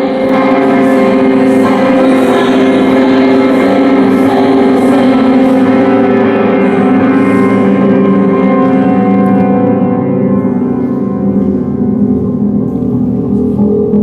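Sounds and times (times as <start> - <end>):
dense drone music: 0.0 - 14.0.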